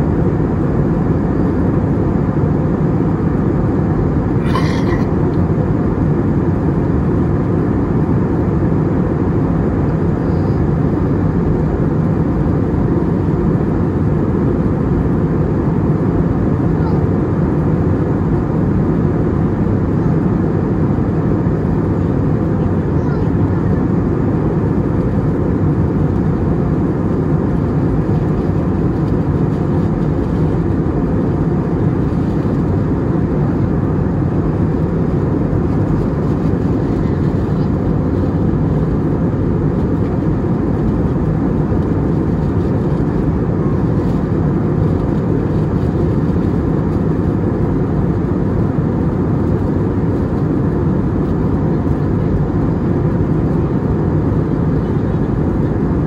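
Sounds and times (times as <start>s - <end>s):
airplane cabin noise: 0.0s - 56.0s.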